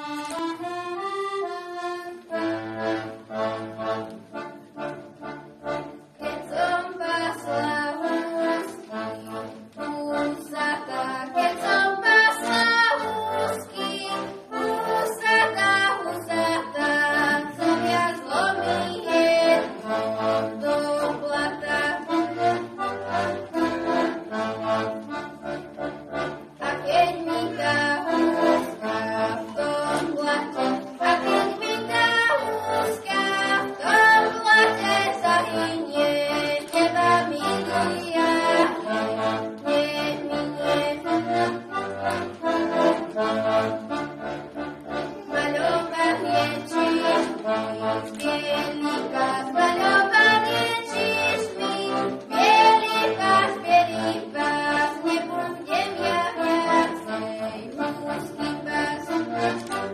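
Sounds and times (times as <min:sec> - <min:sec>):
accordion folk song: 0:00.0 - 0:59.9.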